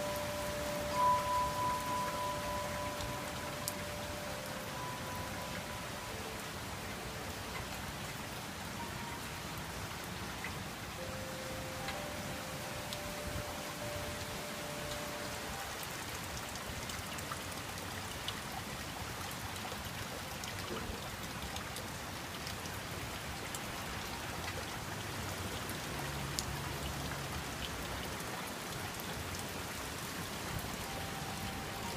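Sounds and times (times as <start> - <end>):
heavy rain: 0.0 - 31.9.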